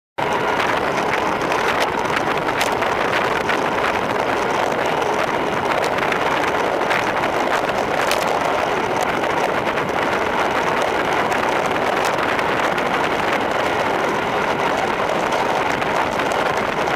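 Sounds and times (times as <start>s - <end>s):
wind rushing across microphone: 0.2s - 16.9s.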